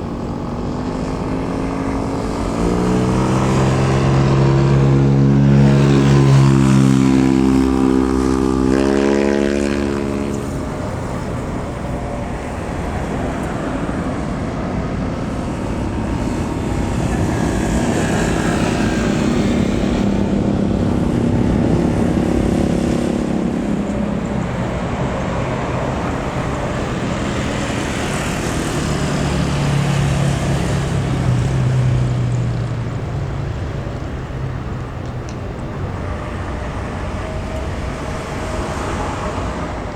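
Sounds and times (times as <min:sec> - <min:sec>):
droning tone rising in pitch: 0:00.0 - 0:34.0
jet airliner roar: 0:00.0 - 0:39.9.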